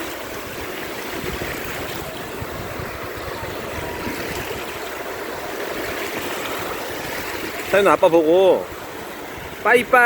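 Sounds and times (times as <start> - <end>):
small waves breaking on shore: 0.0 - 10.0.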